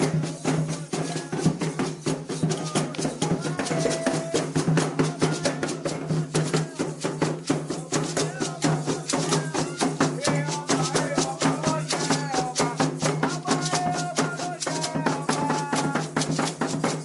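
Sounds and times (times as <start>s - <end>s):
drums fast rhythm: 0.0s - 17.0s
rattles shaking: 0.0s - 17.0s.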